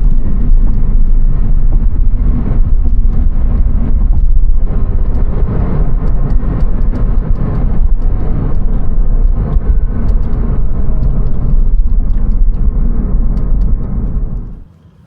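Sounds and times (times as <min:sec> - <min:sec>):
car engine running: 0:00.0 - 0:15.0
road and wind rumble: 0:00.0 - 0:15.0.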